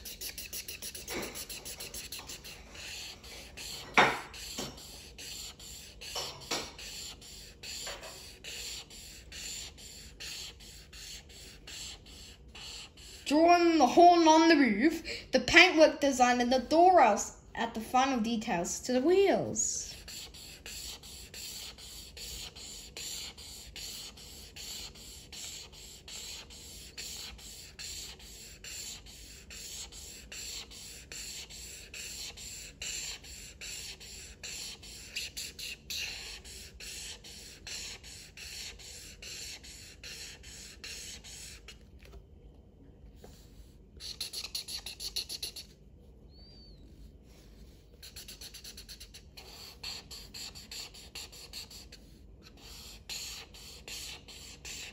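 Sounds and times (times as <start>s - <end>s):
marker scribbling on paper: 0.0s - 14.6s, 19.2s - 42.1s, 43.2s - 45.8s, 46.8s - 54.9s.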